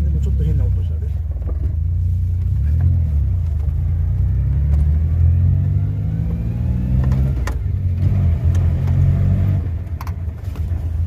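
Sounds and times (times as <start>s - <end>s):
car engine pulling: 0.0s - 11.0s.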